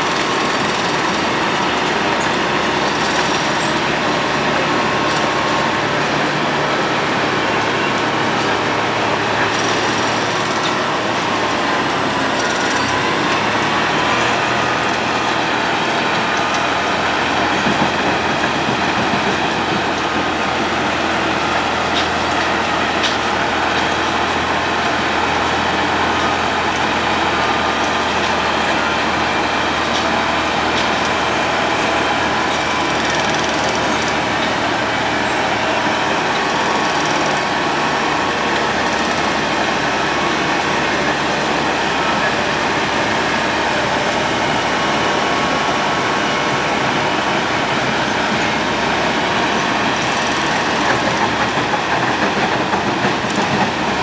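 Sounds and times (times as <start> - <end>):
road milling machine grinding: 0.0 - 54.0.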